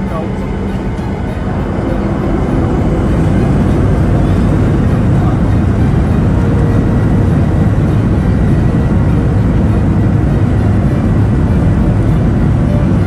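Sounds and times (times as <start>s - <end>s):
airliner cabin engine rumble: 0.0s - 13.0s
faint high whine: 0.0s - 13.0s.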